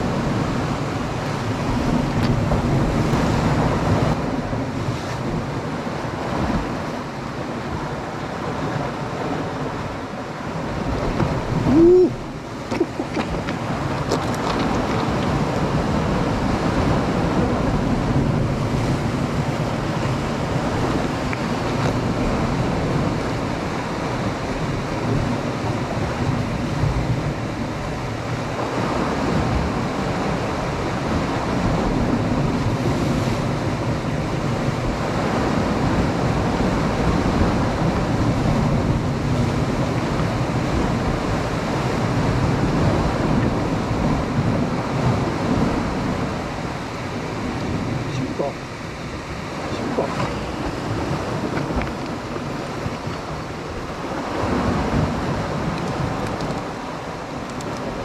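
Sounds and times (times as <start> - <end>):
waves washing against rocks: 0.0 - 58.0
wind buffeting microphone: 0.0 - 58.0.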